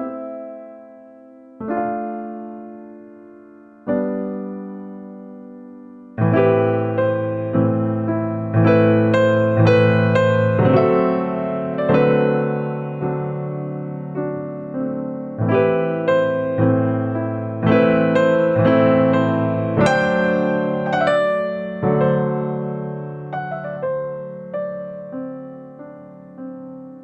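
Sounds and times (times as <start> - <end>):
soft piano chords: 0.0 - 27.0.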